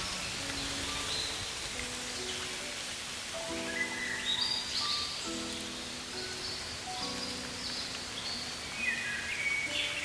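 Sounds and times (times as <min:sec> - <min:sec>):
even hiss like light rain: 0:00.0 - 0:10.0
soft background music: 0:00.0 - 0:10.0.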